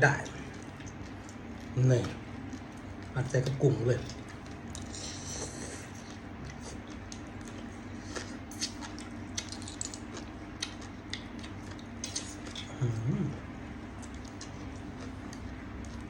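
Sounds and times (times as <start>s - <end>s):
person eating: 0.2s - 16.0s.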